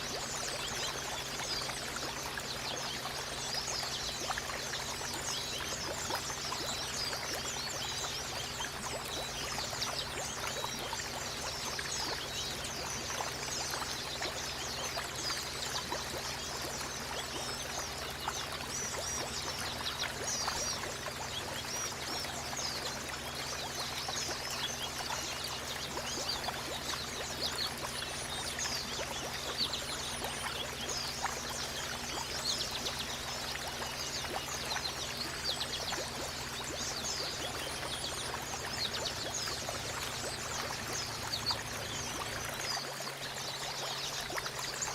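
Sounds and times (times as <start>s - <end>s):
running water trickling: 0.0s - 44.9s
small birds twittering: 0.0s - 44.9s.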